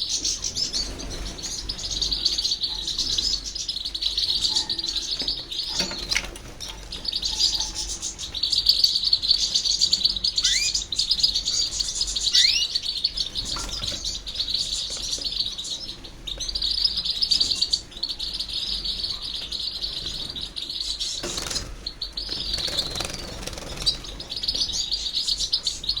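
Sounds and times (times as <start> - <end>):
bird twittering song: 0.0 - 26.0.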